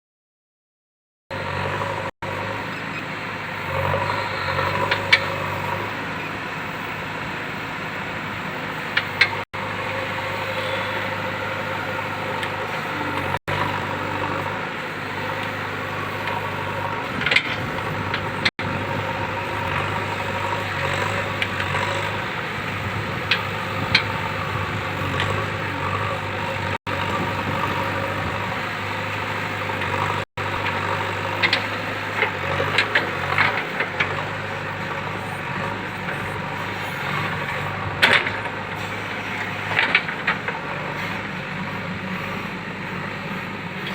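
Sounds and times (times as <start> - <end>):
diesel engine running: 1.3 - 43.9.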